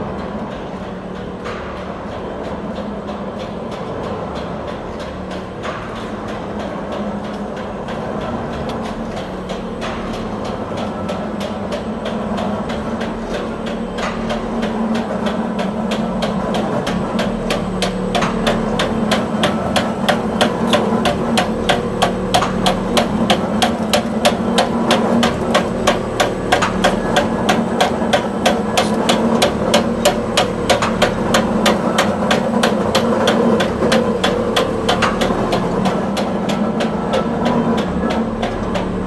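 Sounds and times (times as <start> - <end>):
machine sharp clacks: 0.0 - 39.0
steady machine hum: 0.0 - 39.0.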